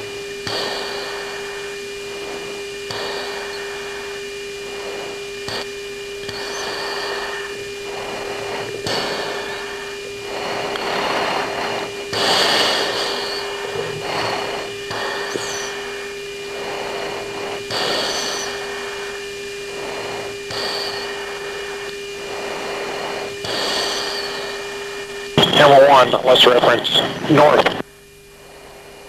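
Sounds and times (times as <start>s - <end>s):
radio static hiss: 0.0s - 29.0s
steady hum: 0.0s - 29.0s.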